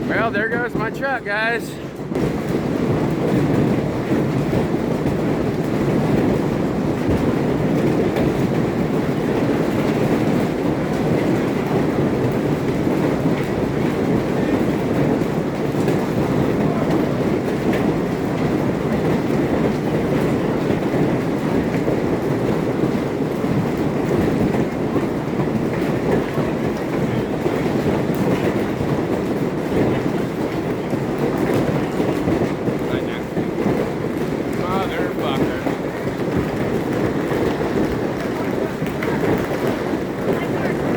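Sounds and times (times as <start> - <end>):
heavy hail striking hard surfaces: 0.0 - 40.9.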